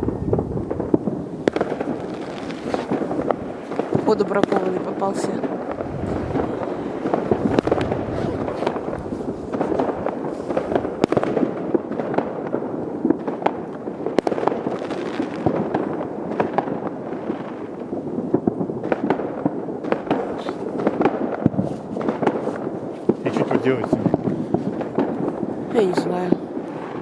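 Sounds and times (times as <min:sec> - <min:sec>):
fireworks crackling and banging: 0:00.0 - 0:27.0
loud firework bangs: 0:00.0 - 0:27.0.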